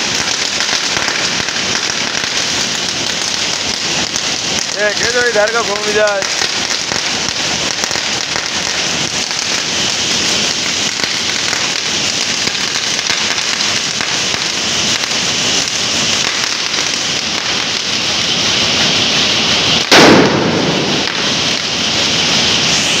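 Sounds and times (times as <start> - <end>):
firecrackers crackling: 0.0 - 23.0
loud firecracker bang: 0.0 - 23.0.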